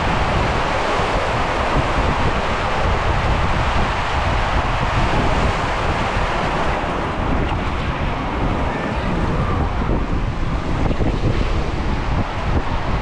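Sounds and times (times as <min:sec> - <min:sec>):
raft rumbling down slide: 0:00.0 - 0:13.0
water rushing: 0:00.0 - 0:13.0
wind buffeting microphone: 0:00.0 - 0:13.0.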